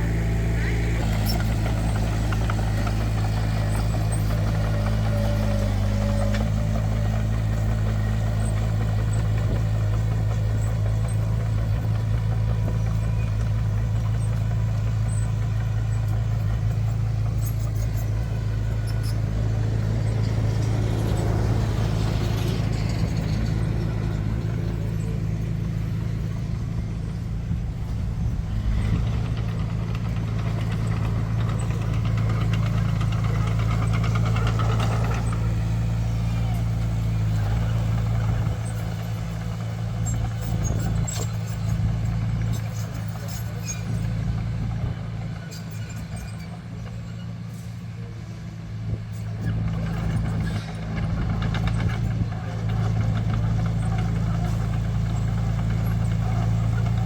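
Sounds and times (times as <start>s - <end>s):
heavy machinery diesel engine drone: 0.0s - 57.0s.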